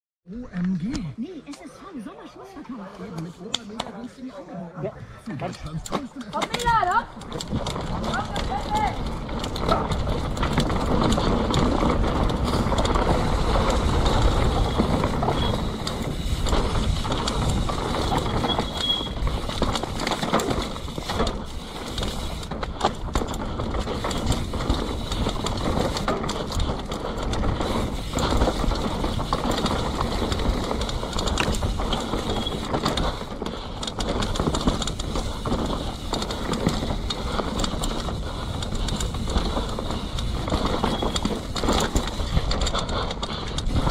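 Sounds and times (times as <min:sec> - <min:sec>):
bike tyres rolling on dirt: 0:05.7 - 0:43.9
bike rattling over bumps: 0:05.9 - 0:43.9.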